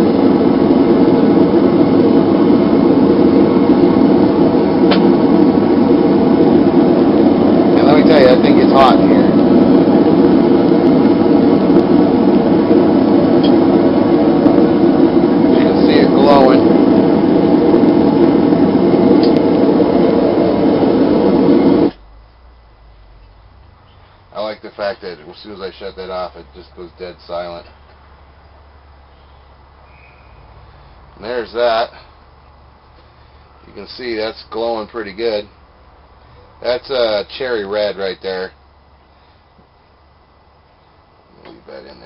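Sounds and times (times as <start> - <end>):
gas burner roaring: 0.0 - 42.0.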